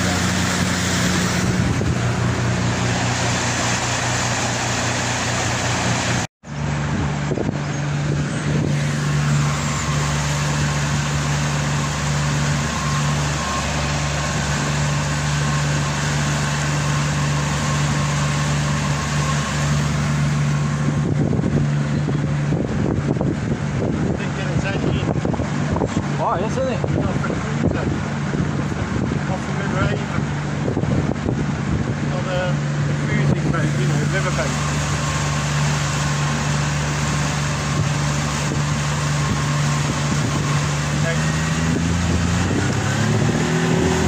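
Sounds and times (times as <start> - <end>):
outboard motor running: 0.0 - 44.0
water rushing from hull: 0.0 - 44.0.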